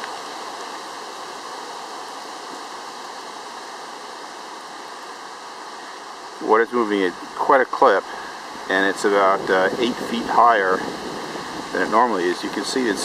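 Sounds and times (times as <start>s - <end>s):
flooded brook rushing: 0.0s - 13.0s.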